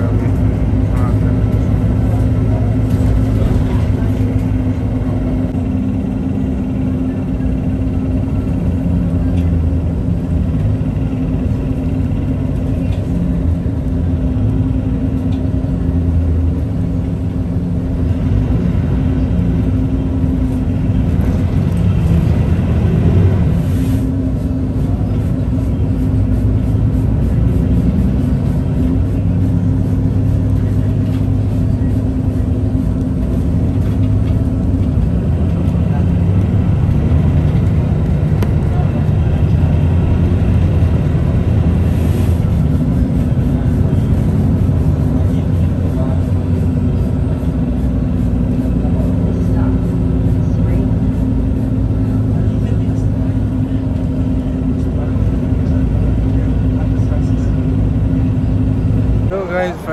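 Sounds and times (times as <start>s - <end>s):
bus engine rumble: 0.0s - 59.9s
constant drone: 0.0s - 59.9s
road noise: 0.0s - 59.9s.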